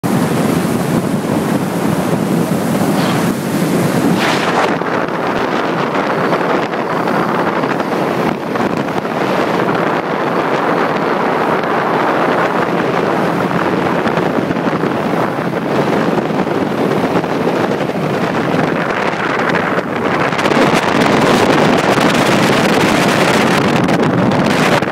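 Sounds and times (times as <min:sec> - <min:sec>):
boat motor: 0:00.0 - 0:24.9
water rushing past hull: 0:00.0 - 0:24.9
wind buffeting microphone: 0:00.0 - 0:24.9.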